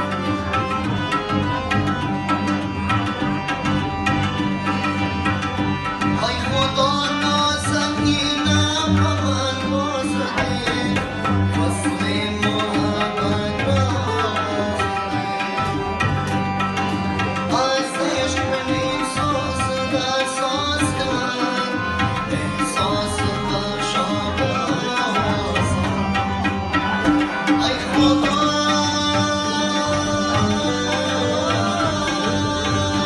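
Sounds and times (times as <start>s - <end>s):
harmonium: 0.0s - 33.0s
plucked string instrument: 0.0s - 33.0s
tabla: 0.0s - 33.0s.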